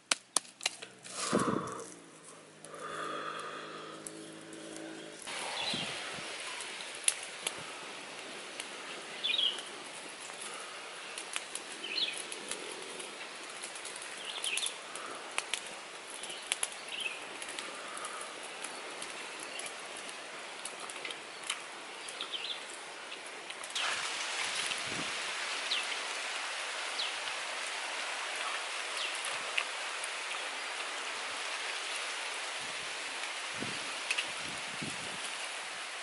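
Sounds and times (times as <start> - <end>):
steady outdoor hiss: 0.0 - 36.0
wood fire crackling and popping: 0.0 - 36.0.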